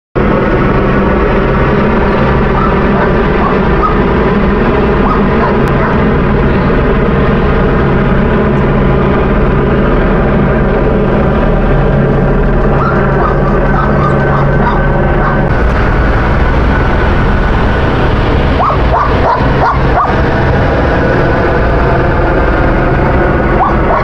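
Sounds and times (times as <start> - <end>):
helicopter rotor thrumming: 0.2 - 24.0.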